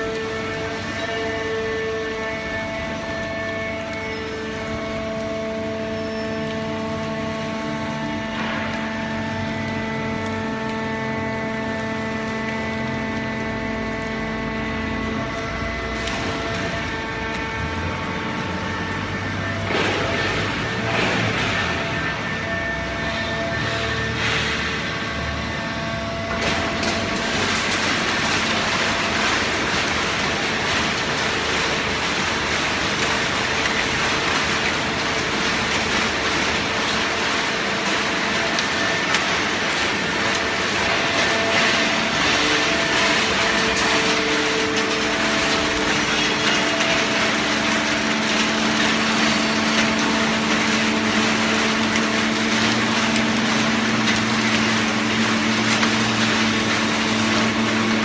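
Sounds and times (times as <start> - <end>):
baling press hum and whine: 0.0 - 58.0.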